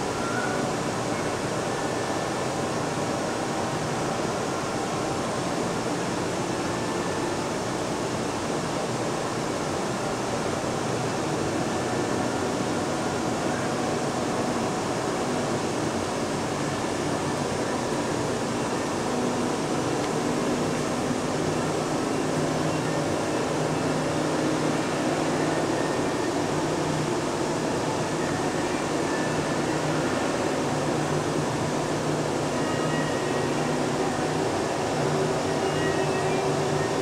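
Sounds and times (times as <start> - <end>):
room hiss: 0.0 - 37.0.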